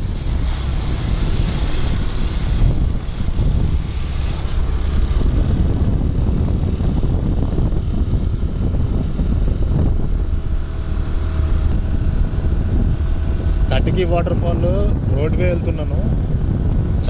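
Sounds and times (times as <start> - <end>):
motorcycle engine drone: 0.0 - 17.0
wind buffeting microphone: 0.0 - 17.0.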